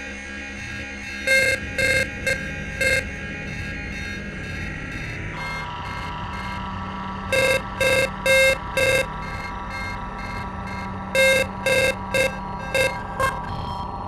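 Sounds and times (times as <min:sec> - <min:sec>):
steady droning tone: 0:00.0 - 0:14.0.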